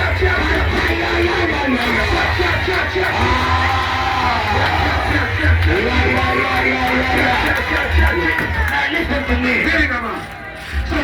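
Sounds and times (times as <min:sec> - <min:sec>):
heavy bass: 0:00.0 - 0:09.9.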